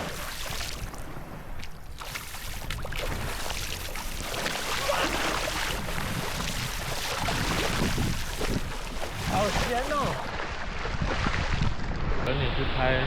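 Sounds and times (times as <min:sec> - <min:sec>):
seawater splashing: 0:00.0 - 0:11.9.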